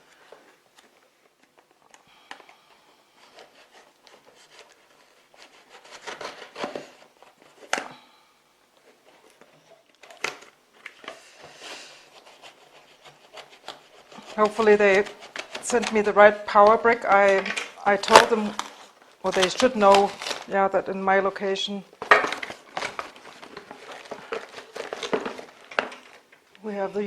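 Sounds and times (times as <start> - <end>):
packaging rustling and crinkling: 0.0 - 21.0, 21.9 - 26.6.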